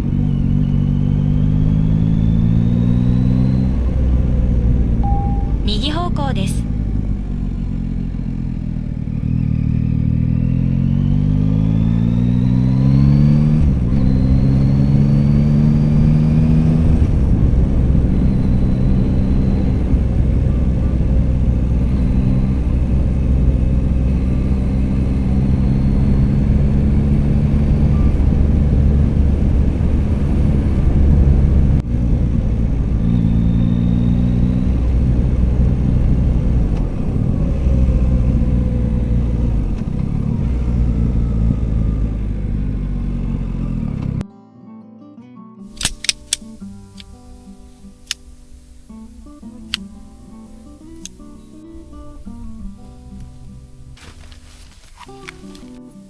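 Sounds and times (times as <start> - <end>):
motorcycle engine accelerating: 0.0 - 5.7, 6.5 - 44.2, 45.7 - 56.0.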